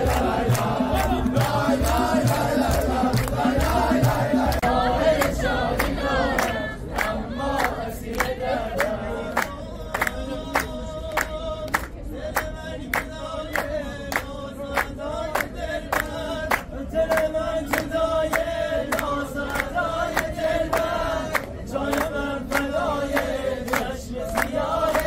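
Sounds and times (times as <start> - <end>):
crowd singing together: 0.0 - 25.0
rhythmic hand-clapping: 0.0 - 25.0.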